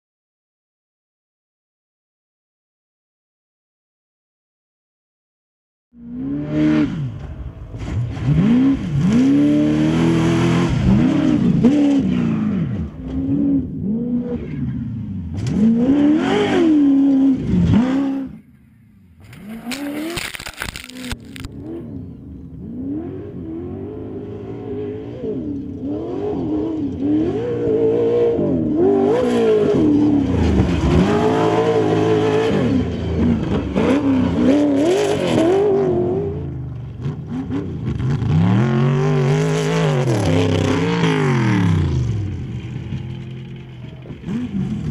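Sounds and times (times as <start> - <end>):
race vehicle engines revving: 6.0 - 44.9.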